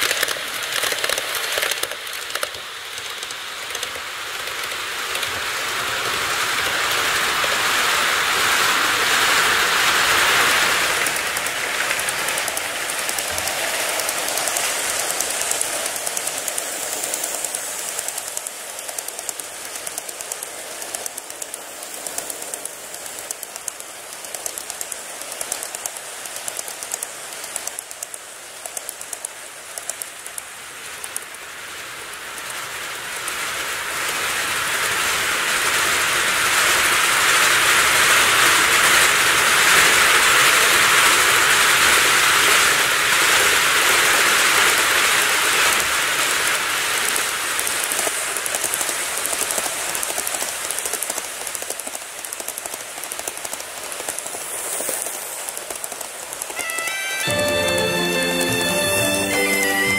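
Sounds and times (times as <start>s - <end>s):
train wheels clicking over rail joints: 0.0s - 58.8s
model train wheels and motors hissing: 0.0s - 59.9s.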